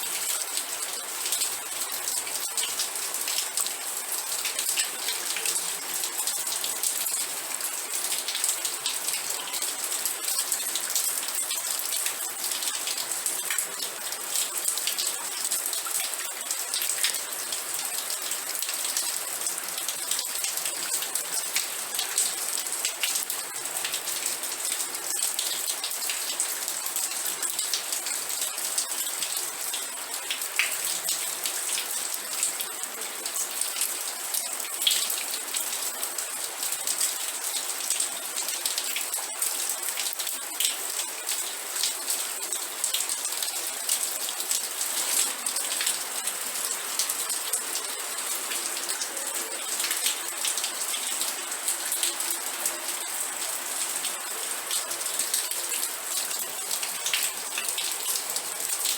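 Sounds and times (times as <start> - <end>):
steady rain hiss: 0.0 - 58.9
raindrops ticking on a surface: 0.2 - 58.9.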